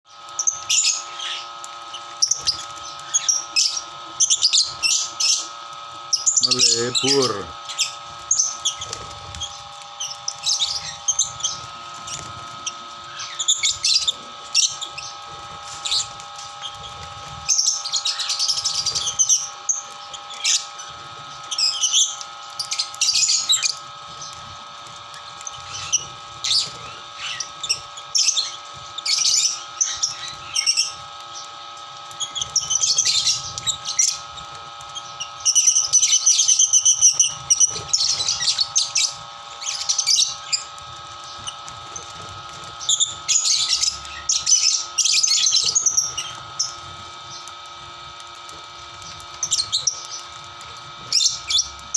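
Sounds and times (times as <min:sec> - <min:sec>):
lovebirds chirping and squawking: 0:00.1 - 0:51.9.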